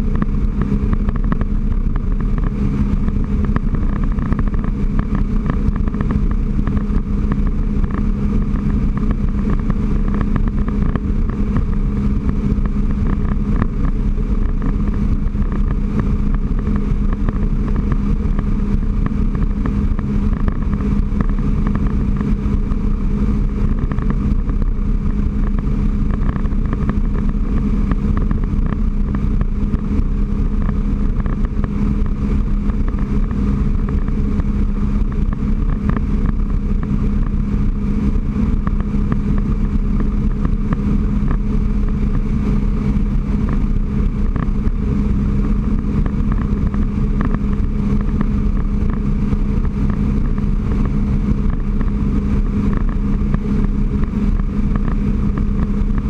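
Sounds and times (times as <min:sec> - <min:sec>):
watercraft engine droning: 0:00.0 - 0:56.0.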